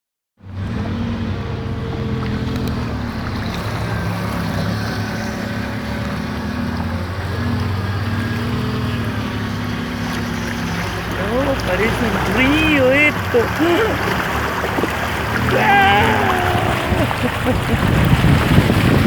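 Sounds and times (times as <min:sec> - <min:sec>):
vehicle engine running: 0:00.4 - 0:16.3
rainwater rushing in street: 0:00.4 - 0:19.0.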